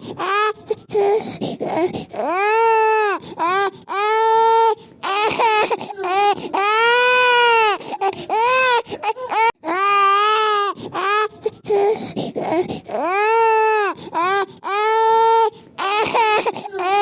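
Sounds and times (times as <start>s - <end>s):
infant crying: 0.0s - 17.0s.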